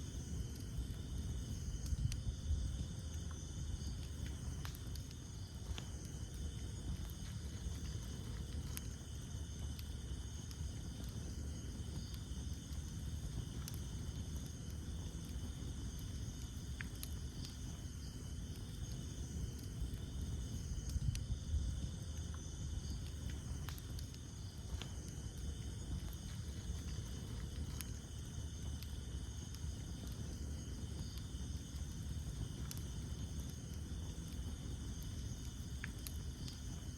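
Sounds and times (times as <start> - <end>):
campfire burning with pops: 0.0 - 36.9
night insects trilling: 0.0 - 36.9.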